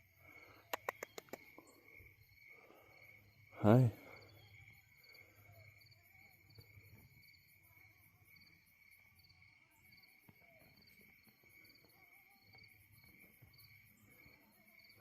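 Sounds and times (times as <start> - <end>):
crickets trilling: 0.0 - 15.0
high insect chirp: 0.0 - 15.0.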